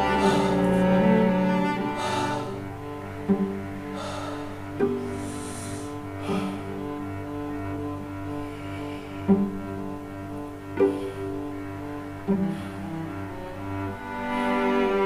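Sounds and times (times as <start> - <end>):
bowed cello notes: 0.0 - 15.0
steady low tone: 0.0 - 15.0.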